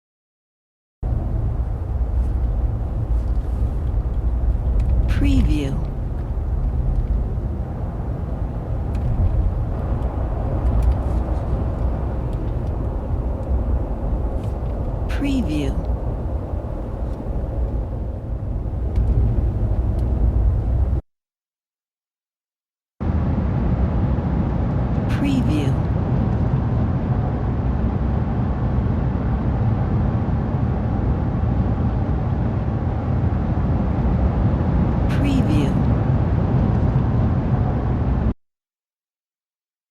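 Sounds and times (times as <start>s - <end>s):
engine and road rumble: 1.0s - 21.0s, 23.0s - 38.4s.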